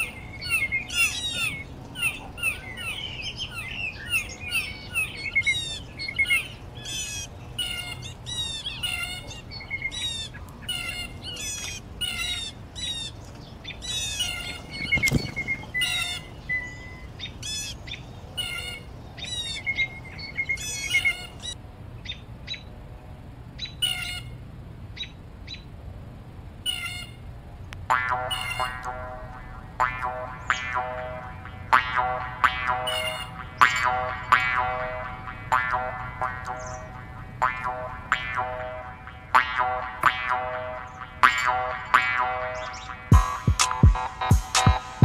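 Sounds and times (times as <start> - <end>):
songbirds singing: 0.0 - 45.0.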